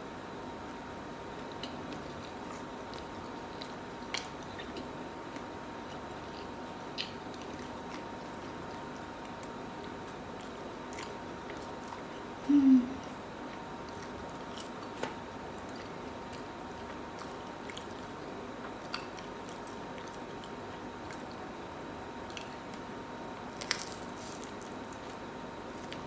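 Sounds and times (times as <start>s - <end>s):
person chewing crunchy food: 1.3s - 12.4s, 13.0s - 21.3s, 23.5s - 26.0s.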